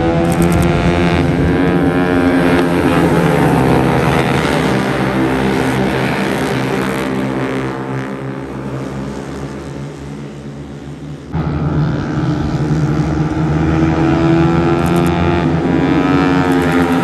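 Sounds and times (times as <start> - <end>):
racing motorcycle engines droning: 0.0 - 17.0.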